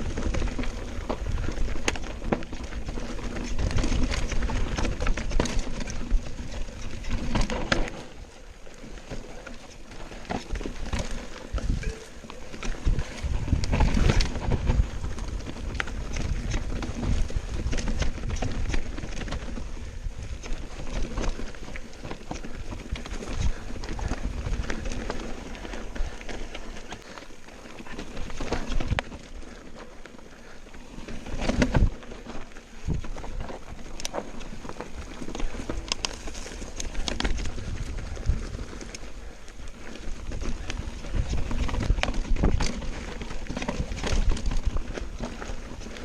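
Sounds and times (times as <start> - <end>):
bike jolts: 0.0 - 46.0
bike rattling with sharp knocks: 0.0 - 46.0.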